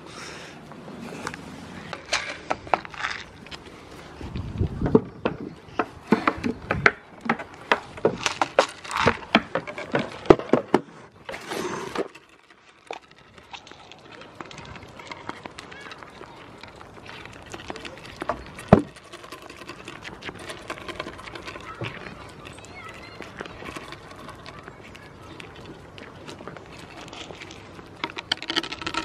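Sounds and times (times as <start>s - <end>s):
goat nibbling and crunching food: 0.1s - 29.0s.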